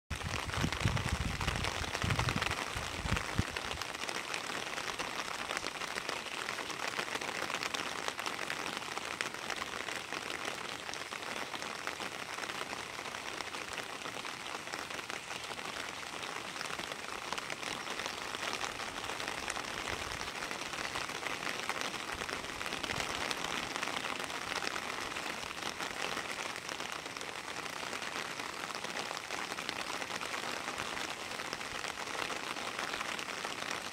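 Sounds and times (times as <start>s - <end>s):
rain falling on plants: 0.1s - 33.9s.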